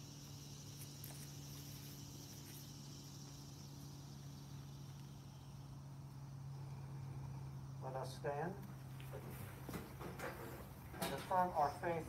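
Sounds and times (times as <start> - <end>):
insects chirring: 0.0 - 12.0
low steady hum: 0.0 - 12.0.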